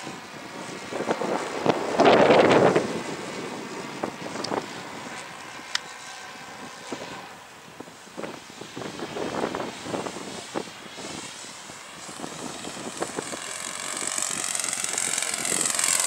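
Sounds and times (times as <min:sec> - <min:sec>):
wind buffeting microphone: 0:00.0 - 0:05.8, 0:06.4 - 0:16.0
model airplane motor droning: 0:00.0 - 0:16.0.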